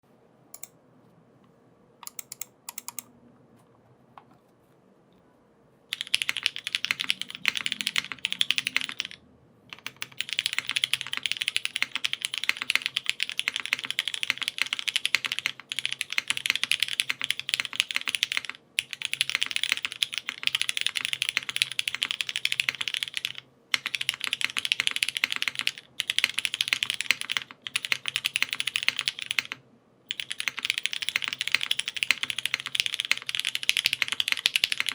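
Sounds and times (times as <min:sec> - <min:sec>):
mechanical keyboard typing: 0:02.0 - 0:03.1, 0:05.9 - 0:34.9.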